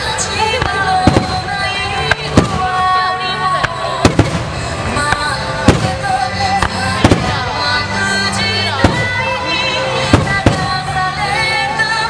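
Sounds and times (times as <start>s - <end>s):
music: 0.0s - 12.0s
fireworks bangs: 0.4s - 11.1s.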